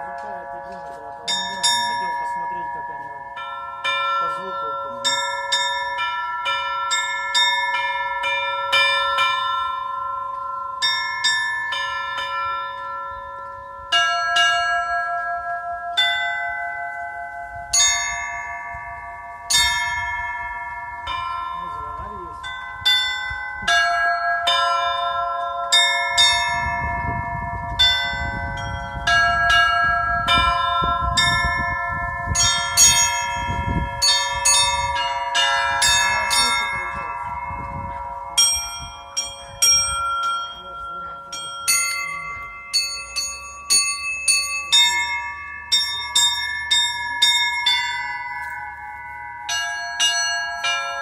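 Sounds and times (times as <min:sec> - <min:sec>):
church bells ringing: 0:00.0 - 0:51.0.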